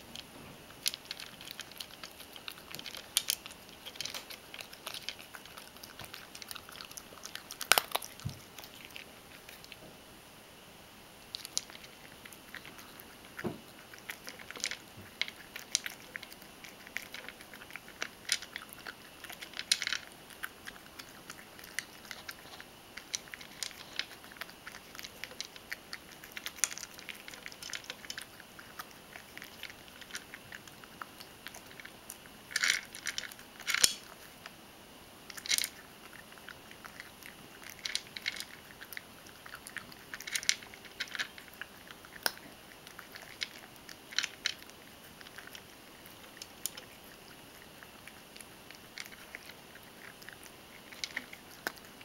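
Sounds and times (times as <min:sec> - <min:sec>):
cat crunching dry food: 0:00.0 - 0:09.8, 0:11.2 - 0:34.6, 0:35.2 - 0:52.0.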